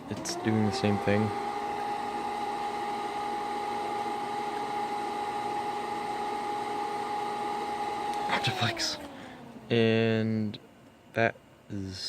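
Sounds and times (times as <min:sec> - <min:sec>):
computer fan whining: 0:00.0 - 0:12.0.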